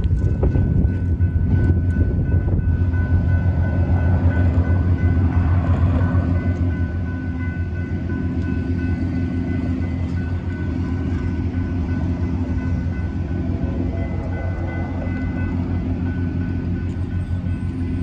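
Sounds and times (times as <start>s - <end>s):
low engine drone: 0.0s - 18.0s
vehicles driving over railroad crossing: 0.0s - 18.0s.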